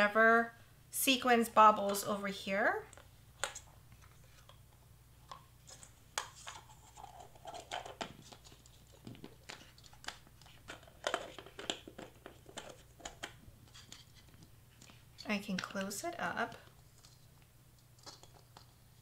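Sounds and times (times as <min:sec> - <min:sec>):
plastic clicks and rustles: 0:02.9 - 0:19.0.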